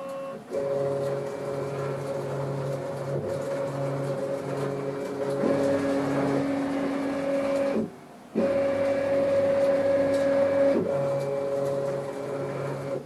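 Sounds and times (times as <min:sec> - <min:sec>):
machine axis drives whining: 0:00.0 - 0:13.0.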